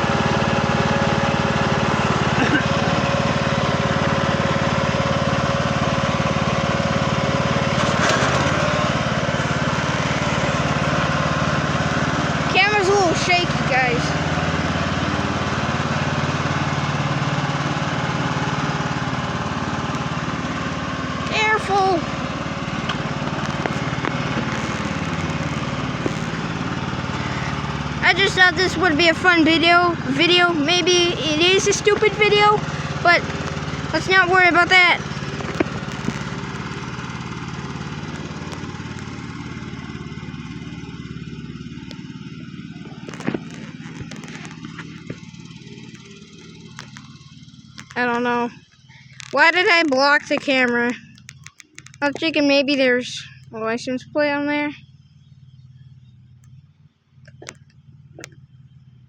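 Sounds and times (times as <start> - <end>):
riding lawn mower engine: 0.0 - 59.0.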